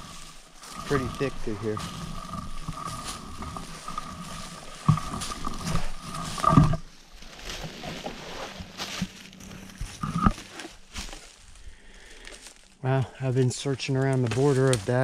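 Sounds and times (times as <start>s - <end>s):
branches crackling and snapping: 0.0s - 12.9s, 13.6s - 15.0s.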